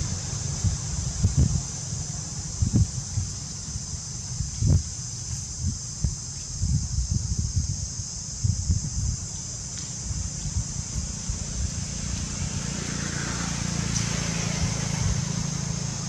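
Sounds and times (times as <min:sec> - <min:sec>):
high-pitched insect drone: 0:00.0 - 0:16.0
wind buffeting microphone: 0:00.0 - 0:16.0.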